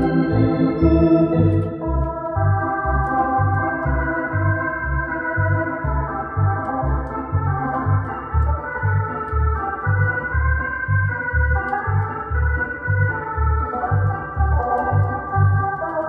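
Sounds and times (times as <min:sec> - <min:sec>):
organ playing a tune: 0:00.0 - 0:16.0.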